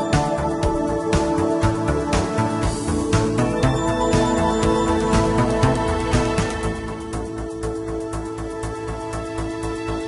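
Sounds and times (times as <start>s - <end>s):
keyboard chords with steady beat: 0.0s - 10.0s.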